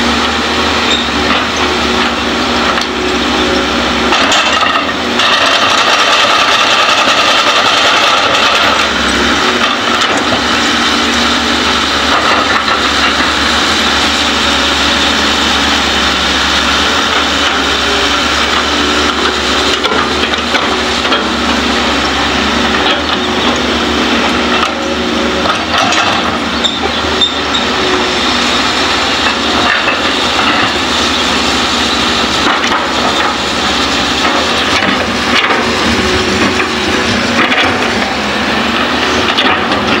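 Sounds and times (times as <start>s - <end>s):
excavator engines and hydraulics: 0.0s - 40.0s.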